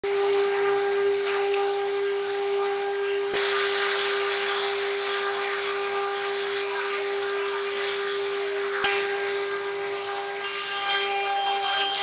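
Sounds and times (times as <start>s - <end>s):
router spindle whine: 0.0s - 12.0s
bit cutting wood hiss: 0.1s - 12.0s.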